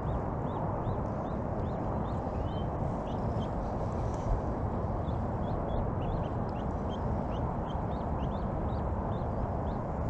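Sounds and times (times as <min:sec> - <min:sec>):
small birds chirping: 0:00.0 - 0:04.3, 0:05.0 - 0:10.0.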